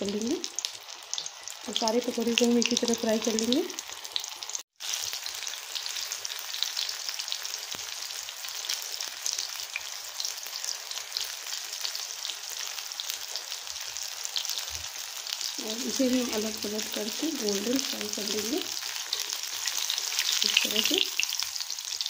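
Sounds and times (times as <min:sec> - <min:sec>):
food deep-frying in hot oil: 0:00.0 - 0:22.0.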